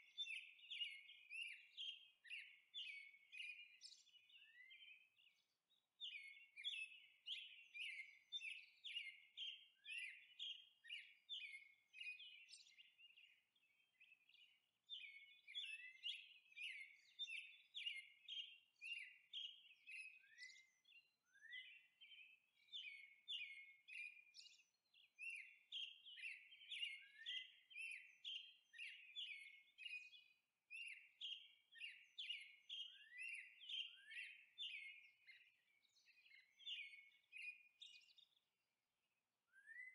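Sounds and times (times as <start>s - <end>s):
small bird chirping: 6.0s - 38.5s.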